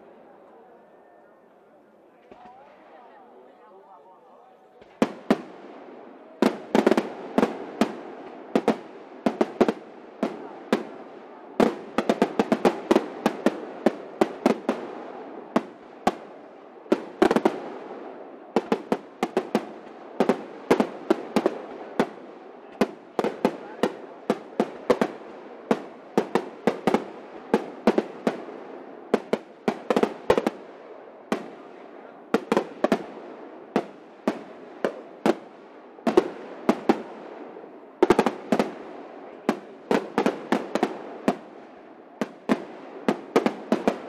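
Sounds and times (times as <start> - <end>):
fireworks bursting: 4.7 - 44.0.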